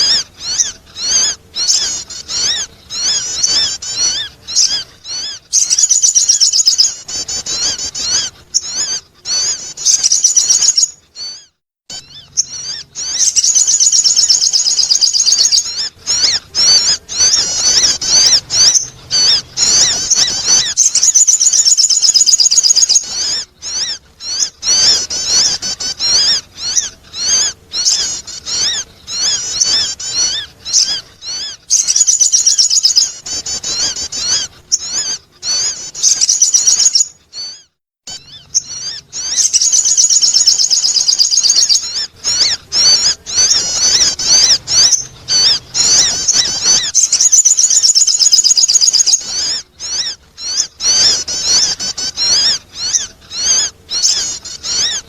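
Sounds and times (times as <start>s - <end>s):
bird chirping phrases: 0.0s - 55.0s.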